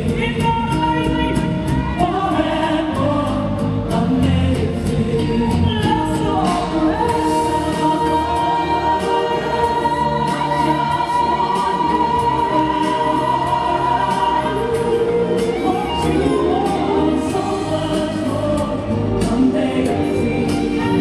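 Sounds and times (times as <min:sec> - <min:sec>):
instrumental accompaniment: 0:00.0 - 0:21.0
gospel choir singing: 0:01.1 - 0:21.0.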